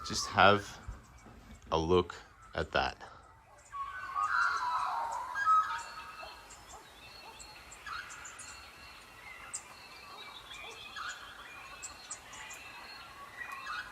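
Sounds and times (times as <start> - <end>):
wild birds chirping and whistling: 0.0 - 13.9.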